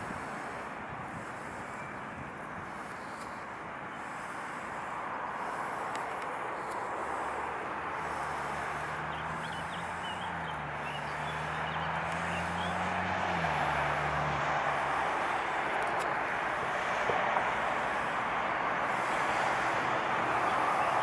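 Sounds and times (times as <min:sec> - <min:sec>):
background traffic rush: 0:00.0 - 0:21.0
vehicle engine hum passing: 0:00.0 - 0:21.0.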